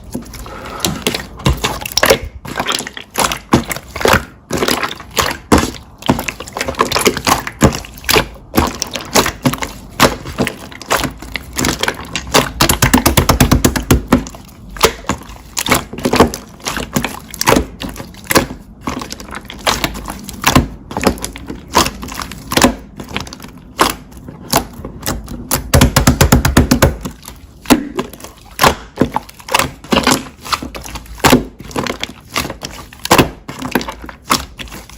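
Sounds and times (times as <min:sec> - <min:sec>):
slime popping and crackling: 0:00.0 - 0:34.9.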